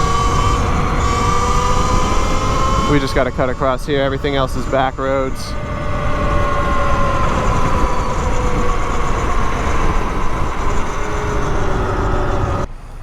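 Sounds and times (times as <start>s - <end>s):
electric motor whine: 0.0s - 12.7s
wind rush on microphone: 0.0s - 12.7s.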